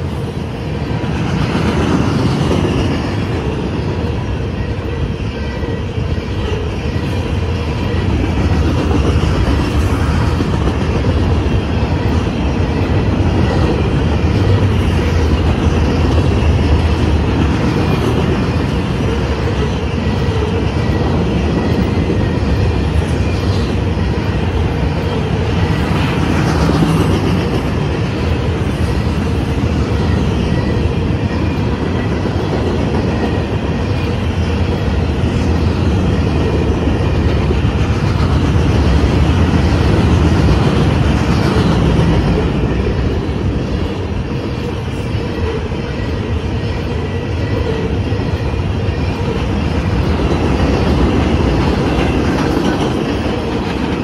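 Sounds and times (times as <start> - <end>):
freight train rumbling past: 0.0 - 54.0
wheels clickety-clack on rail joints: 0.0 - 54.0.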